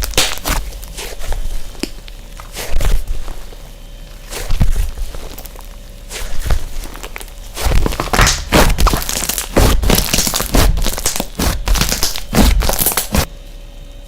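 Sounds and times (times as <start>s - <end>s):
slime squishing and crackling: 0.0s - 13.3s.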